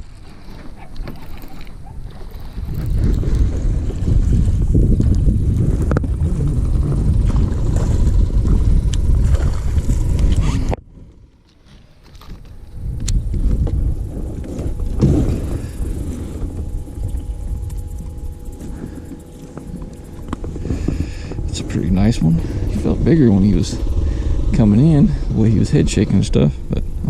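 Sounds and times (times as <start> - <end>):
wind buffeting microphone: 0.0 - 11.4, 12.0 - 27.0.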